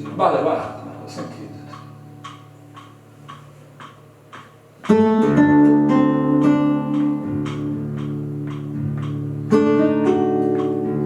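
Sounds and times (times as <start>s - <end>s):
guitar chord strummed: 0.0s - 3.3s, 4.9s - 11.0s
metronome ticking: 0.0s - 11.0s.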